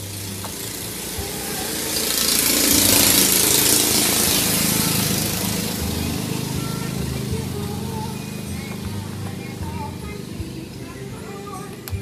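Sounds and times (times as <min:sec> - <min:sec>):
engine passing by: 0:00.0 - 0:12.0.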